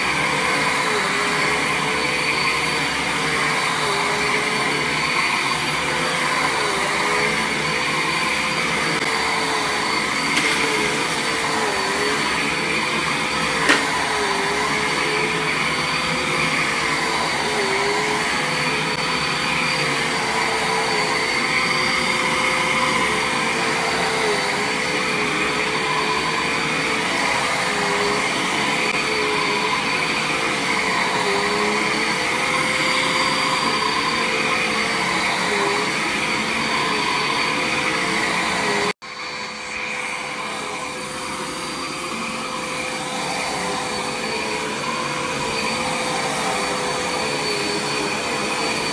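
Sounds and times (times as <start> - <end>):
vacuum cleaner running on carpet: 0.0 - 48.9.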